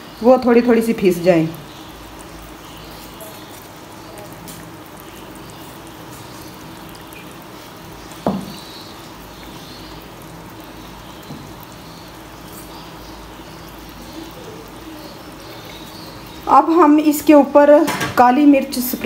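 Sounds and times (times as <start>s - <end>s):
eggs sizzling in frying pan: 0.0s - 19.0s.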